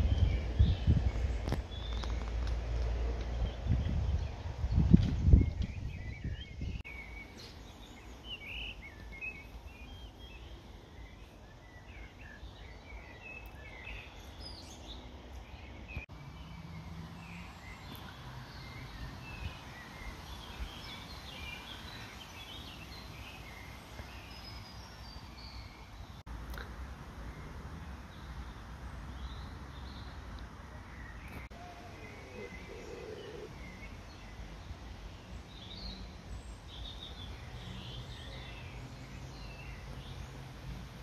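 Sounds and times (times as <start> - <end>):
low outdoor background noise: 0.0 - 41.0
small birds chirping: 0.0 - 41.0.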